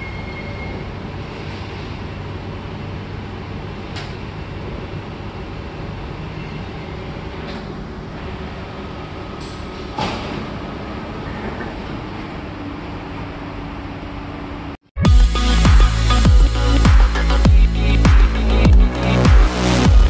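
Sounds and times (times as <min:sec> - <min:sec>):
train car rumble and hum: 0:00.0 - 0:20.0.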